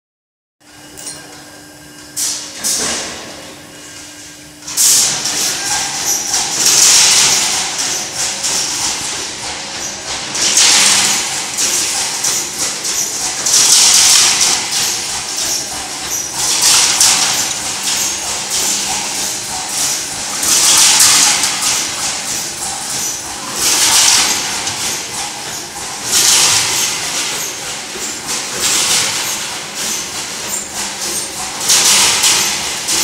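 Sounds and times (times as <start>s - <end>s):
steel cutting line mechanical din: 4.6s - 33.0s.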